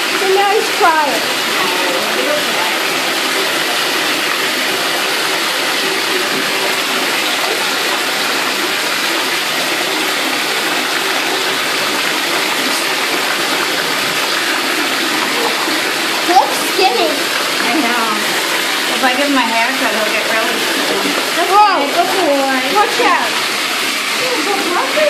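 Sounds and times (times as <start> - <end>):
water gushing from bathtub tap: 0.0 - 25.0.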